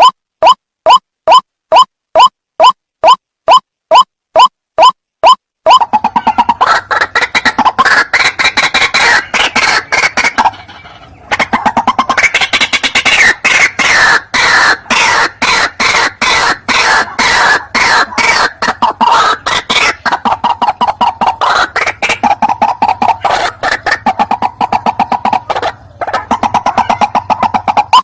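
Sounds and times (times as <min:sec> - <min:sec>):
waterhen harsh croaking calls: 0:02.2 - 0:28.0.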